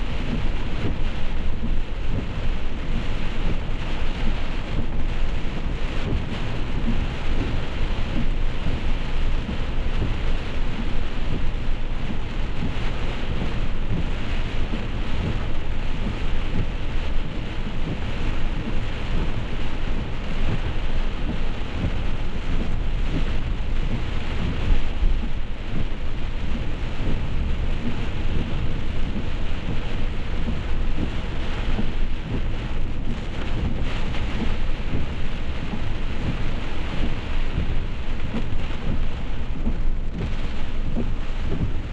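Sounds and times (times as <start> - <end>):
deep continuous rumble: 0.0 - 41.9
heavy rain falling: 0.0 - 41.9.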